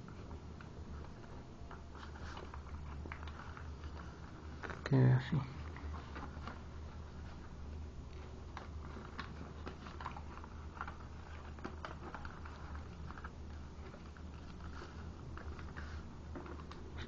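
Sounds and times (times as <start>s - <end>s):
paper crinkling and creasing: 0.0s - 17.0s.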